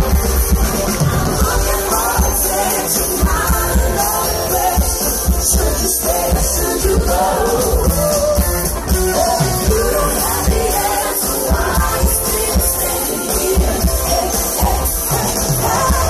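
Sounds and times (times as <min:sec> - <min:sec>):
live pop-rock band: 0:00.0 - 0:16.0
woman singing lead: 0:00.8 - 0:16.0.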